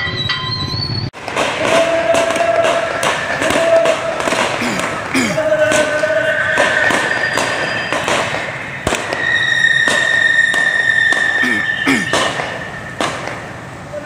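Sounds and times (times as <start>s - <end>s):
sharp bangs: 1.2s - 13.8s.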